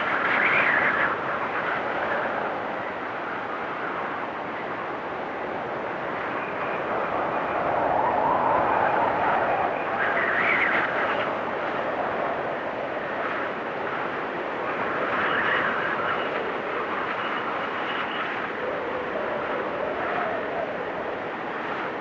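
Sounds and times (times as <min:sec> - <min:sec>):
blizzard wind gusting: 0:00.0 - 0:22.0.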